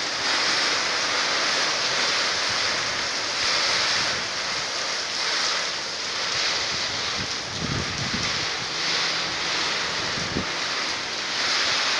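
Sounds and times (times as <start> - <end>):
gusting wind: 0.0 - 11.9
rain: 0.0 - 11.9.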